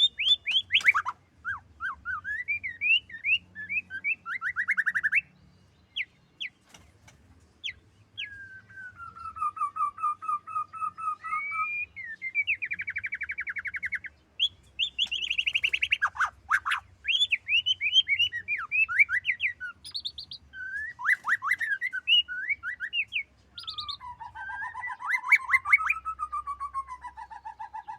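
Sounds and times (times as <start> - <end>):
songbird trills and whistles: 0.0 - 6.8, 7.6 - 27.9.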